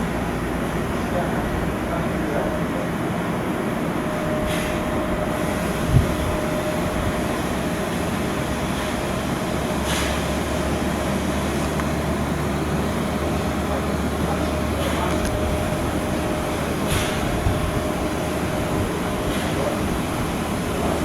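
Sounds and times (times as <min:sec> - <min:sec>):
machinery rumble: 0:00.0 - 0:21.0.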